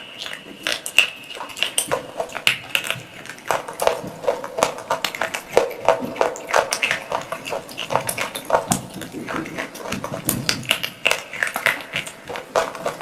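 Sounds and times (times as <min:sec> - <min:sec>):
chewing crunchy clay pieces: 0:00.0 - 0:13.0.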